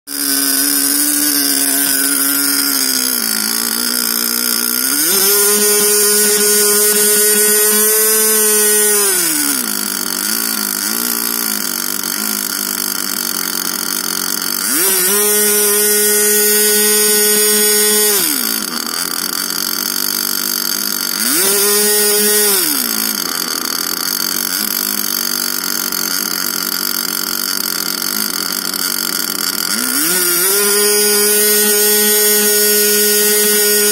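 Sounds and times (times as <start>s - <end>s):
model aircraft engine revving: 0.1s - 33.9s.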